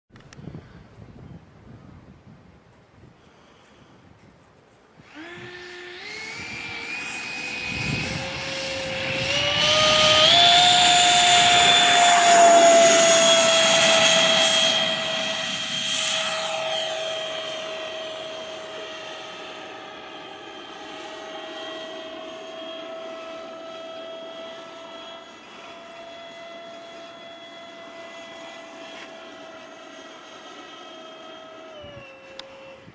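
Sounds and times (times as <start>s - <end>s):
electric ducted fan whine: 4.8s - 32.9s.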